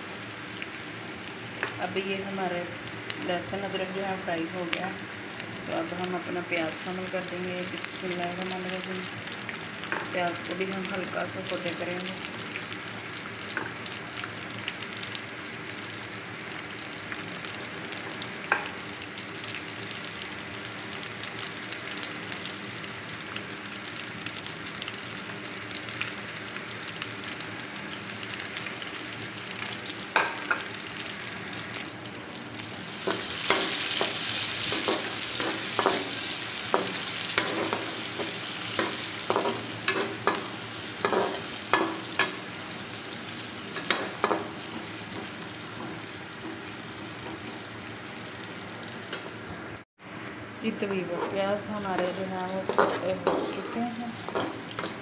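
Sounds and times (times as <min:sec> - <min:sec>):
onions sizzling in oil: 0:00.0 - 0:55.0.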